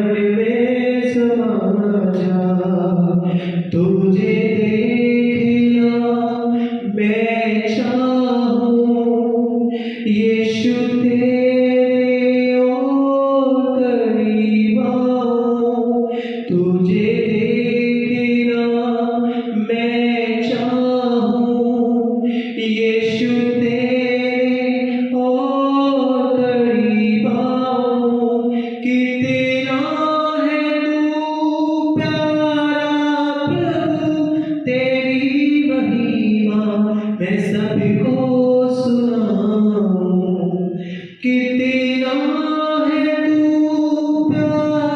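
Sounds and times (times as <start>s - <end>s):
man singing into a microphone: 0.0s - 44.9s.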